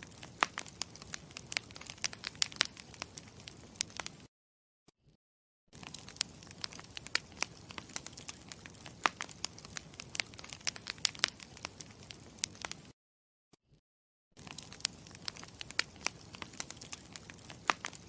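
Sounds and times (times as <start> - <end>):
campfire crackling: 0.0 - 4.3, 5.8 - 12.9, 14.4 - 18.0.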